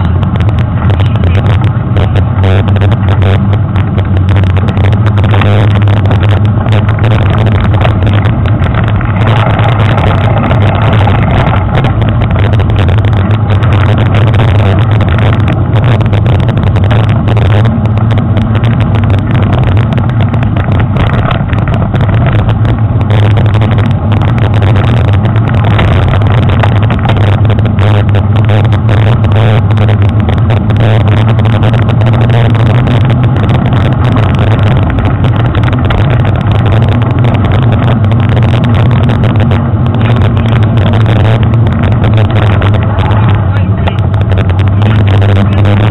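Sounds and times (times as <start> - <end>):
bike trail vibration: 0.0 - 45.9
constant low drone: 0.0 - 45.9
wind rumble on camera: 0.0 - 45.9.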